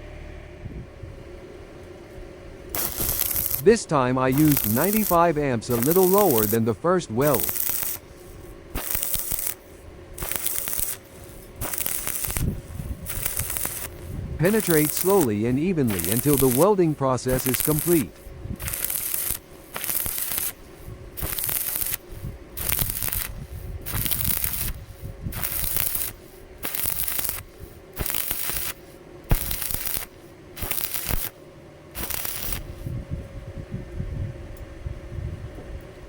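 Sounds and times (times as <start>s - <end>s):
welding arc crackling and hissing: 2.7s - 33.0s.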